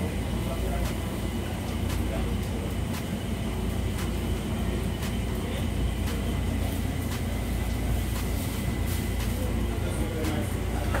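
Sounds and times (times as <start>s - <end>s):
low machinery drone: 0.0s - 11.0s.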